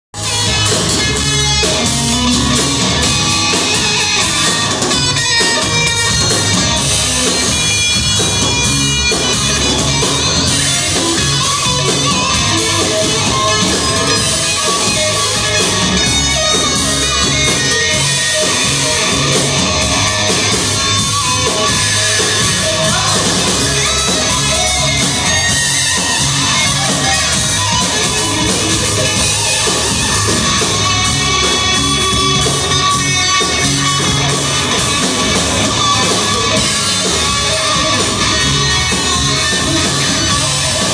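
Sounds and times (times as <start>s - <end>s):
electric guitars: 0.1s - 40.9s
live rock band playing: 0.1s - 40.9s.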